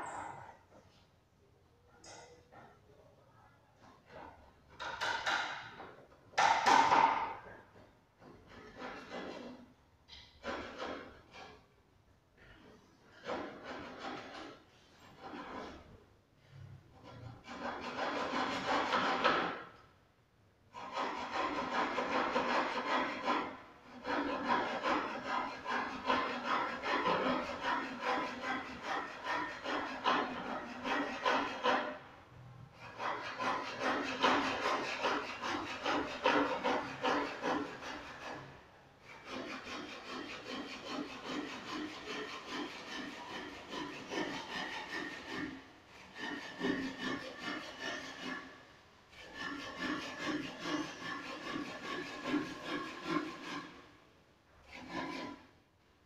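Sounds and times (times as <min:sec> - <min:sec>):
hand saw cutting wood: 0:04.1 - 0:11.6, 0:12.4 - 0:16.0, 0:16.9 - 0:19.8, 0:20.7 - 0:32.1, 0:32.8 - 0:53.9, 0:54.6 - 0:55.6.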